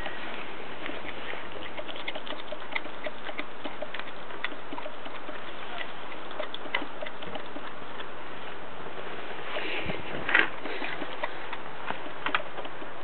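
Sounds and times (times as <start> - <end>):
puppy chewing and licking: 0.0 - 13.0.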